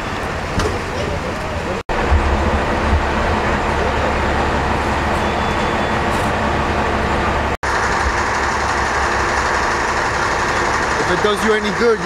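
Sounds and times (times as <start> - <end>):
heavy truck engines idling: 0.0 - 12.0.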